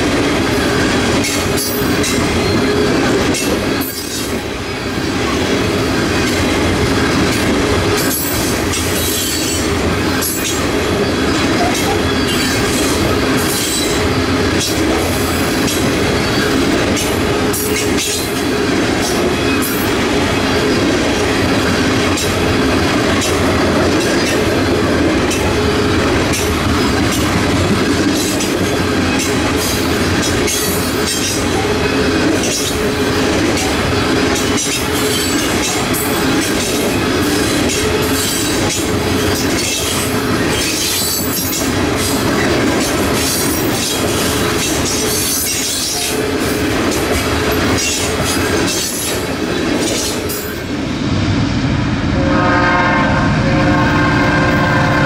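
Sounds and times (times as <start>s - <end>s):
freight train wheels clicking: 0.0s - 50.9s.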